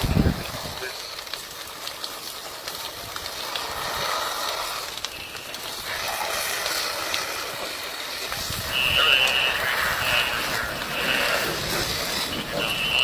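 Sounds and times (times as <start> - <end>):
building fire crackling: 0.0 - 13.0
fire hissing: 0.0 - 13.0.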